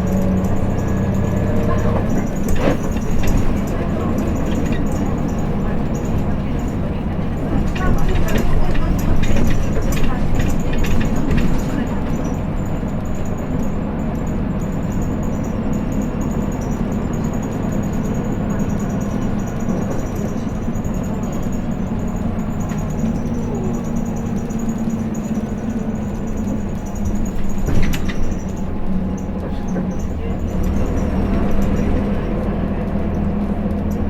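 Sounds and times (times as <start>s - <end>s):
bus engine drone: 0.0s - 34.0s
road noise: 0.0s - 34.0s.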